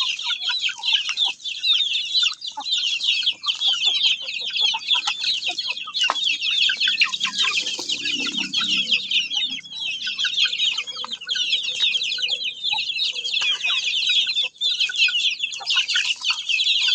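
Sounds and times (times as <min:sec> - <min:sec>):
chorus of birds chirping: 0:00.0 - 0:16.9.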